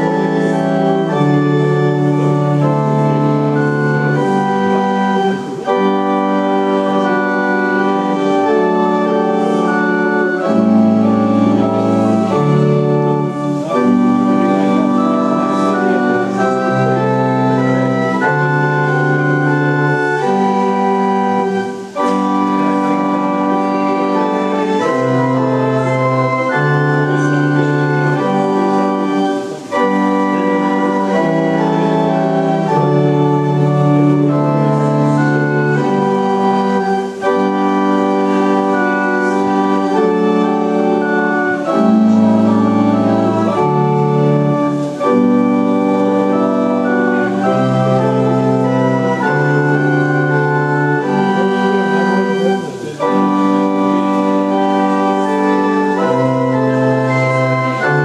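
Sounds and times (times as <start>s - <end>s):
organ chords: 0.0s - 58.0s.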